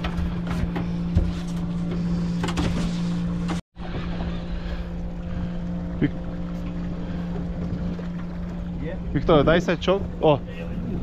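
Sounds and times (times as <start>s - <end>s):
boat motor humming: 0.0s - 11.0s
water noise: 0.0s - 11.0s
wind: 0.0s - 11.0s.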